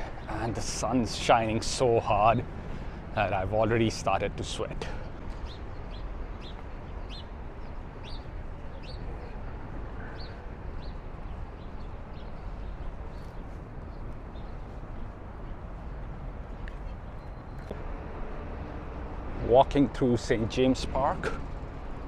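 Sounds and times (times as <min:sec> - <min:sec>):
low city hum: 0:00.0 - 0:22.0.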